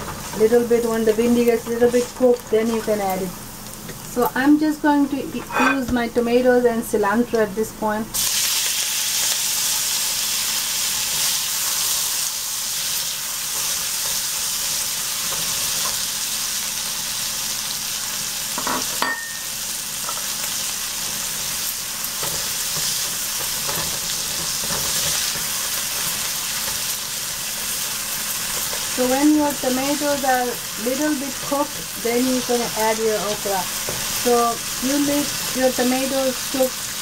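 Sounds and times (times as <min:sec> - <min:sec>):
vegetables sizzling in hot oil: 0:00.0 - 0:05.2, 0:08.2 - 0:37.0.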